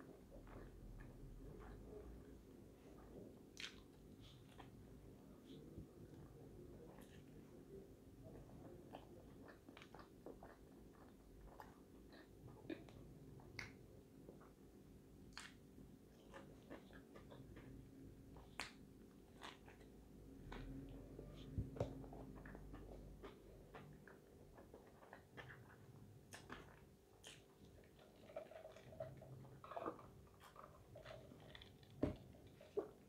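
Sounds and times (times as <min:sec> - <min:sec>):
close-up chewing: 0:00.0 - 0:33.0
faint steady hum: 0:00.0 - 0:33.0.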